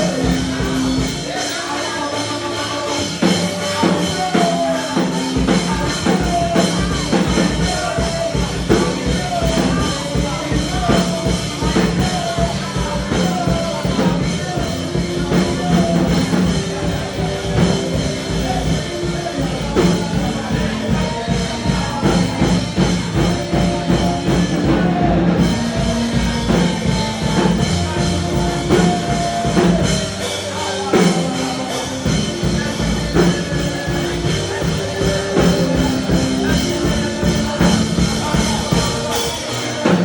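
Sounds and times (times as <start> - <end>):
instrumental worship music: 0.0 - 40.0.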